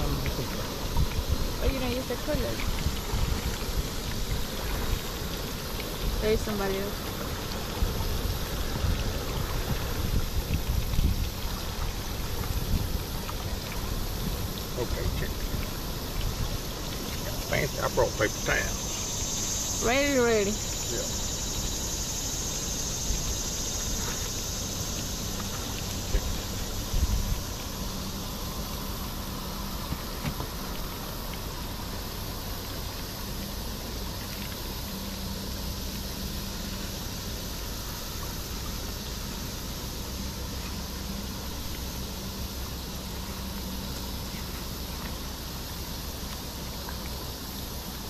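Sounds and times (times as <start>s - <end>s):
outdoor background hiss: 0.0s - 48.0s.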